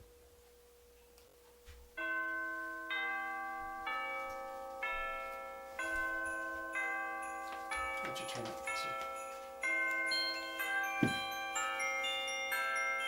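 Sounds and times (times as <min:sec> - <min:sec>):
bell chime music: 0:02.0 - 0:13.0.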